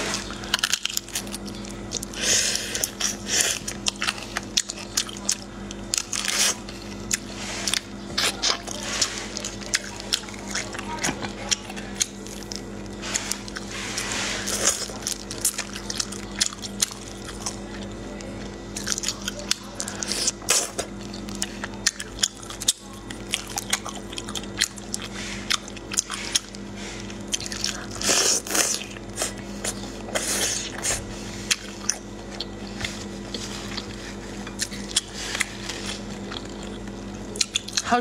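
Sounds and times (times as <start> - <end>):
person chewing and biting: 0.0 - 37.8
steady low hum: 0.0 - 38.0.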